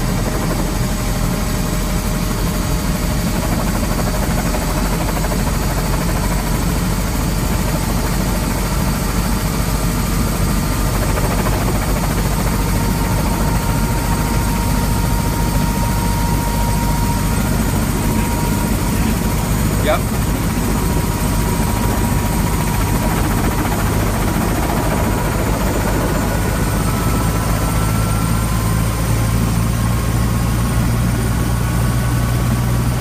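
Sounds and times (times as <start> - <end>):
helicopter engine and rotor rumble: 0.0 - 33.0.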